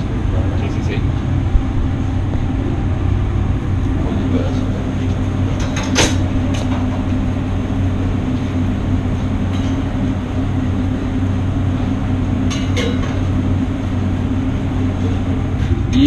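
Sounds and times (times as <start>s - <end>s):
extractor hood fan drone: 0.0s - 16.0s.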